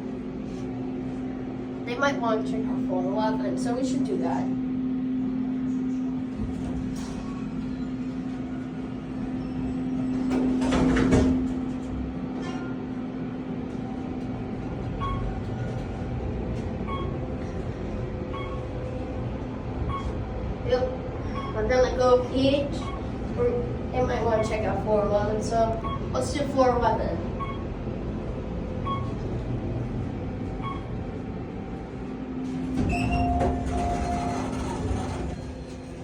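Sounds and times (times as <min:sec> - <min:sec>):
elevator rumble and hum: 0:00.0 - 0:36.0.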